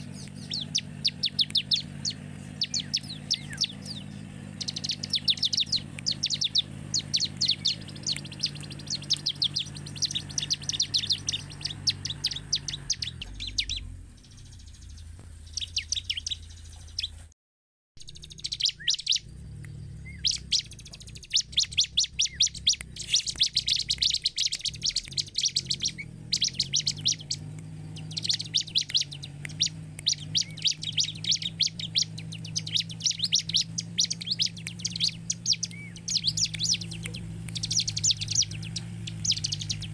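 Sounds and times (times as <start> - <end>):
steady low hum: 0.0 - 17.2, 18.0 - 39.9
bird chirping song: 0.0 - 17.3, 18.0 - 39.9.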